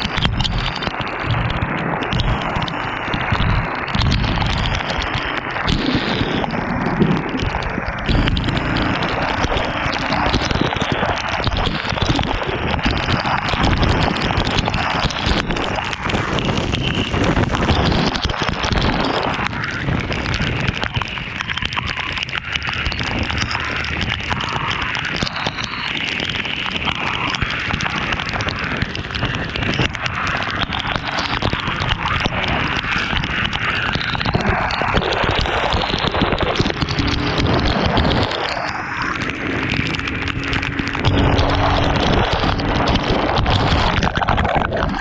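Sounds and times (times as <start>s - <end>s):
rain: 0.0s - 45.0s
road noise: 0.0s - 45.0s
wind buffeting microphone: 0.0s - 45.0s.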